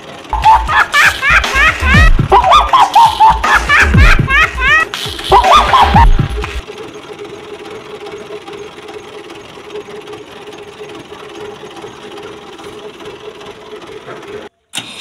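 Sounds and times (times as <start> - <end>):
toy tractor engine droning: 0.0 - 2.7, 3.6 - 4.9, 6.6 - 15.0.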